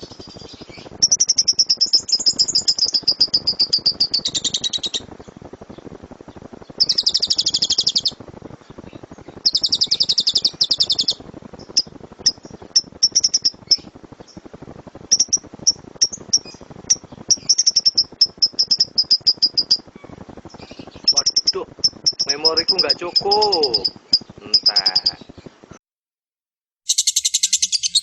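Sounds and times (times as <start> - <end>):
lovebirds chattering trills: 0.0 - 14.5, 15.1 - 25.8, 26.9 - 28.0
lovebirds chirping: 0.0 - 14.5, 15.1 - 25.8, 26.9 - 28.0.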